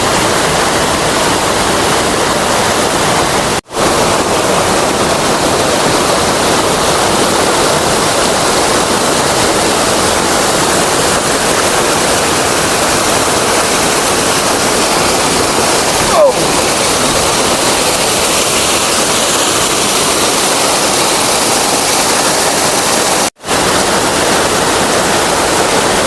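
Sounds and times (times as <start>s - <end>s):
waterfall pouring into a pool: 0.0s - 26.0s.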